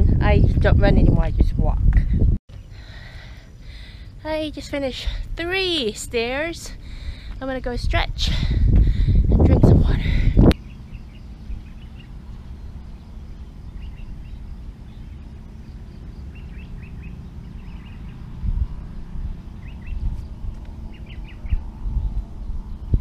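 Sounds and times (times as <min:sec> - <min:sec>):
steady low rumble: 0:00.0 - 0:23.0
small birds chirping: 0:02.5 - 0:08.0, 0:10.0 - 0:23.0.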